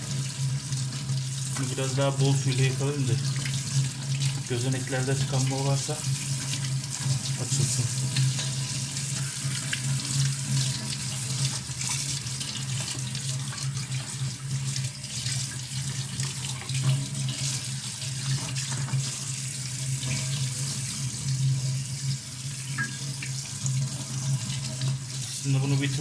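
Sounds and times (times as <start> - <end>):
tap water running into sink: 0.0 - 26.0.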